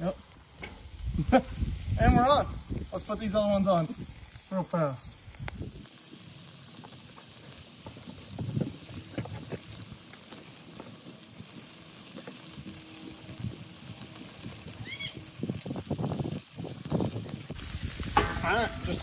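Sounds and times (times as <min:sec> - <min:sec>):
patties sizzling on a grill: 0:00.0 - 0:19.0.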